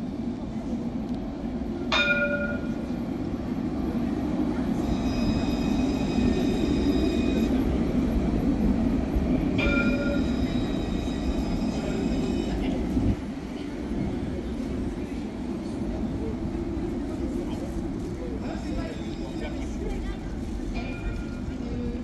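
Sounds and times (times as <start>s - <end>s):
tram rumbling: 0.0s - 22.0s.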